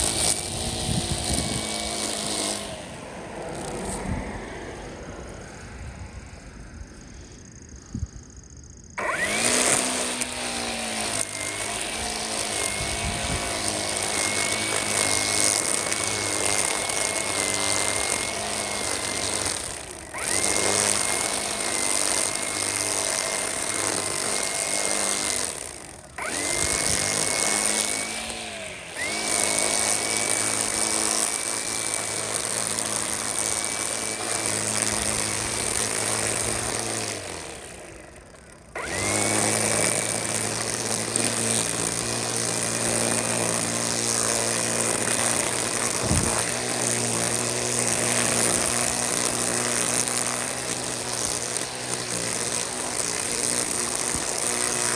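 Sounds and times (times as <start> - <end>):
string trimmer running: 0.0 - 5.8, 8.9 - 54.9
line cutting grass: 0.0 - 54.9.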